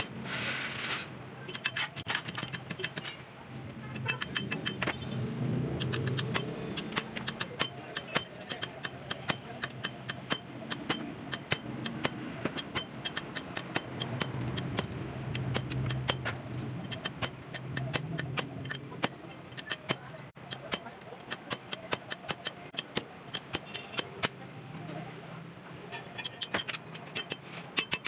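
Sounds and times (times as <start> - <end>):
hammer striking metal chisel: 1.5 - 3.2, 4.0 - 4.9, 5.8 - 24.4, 26.2 - 28.0.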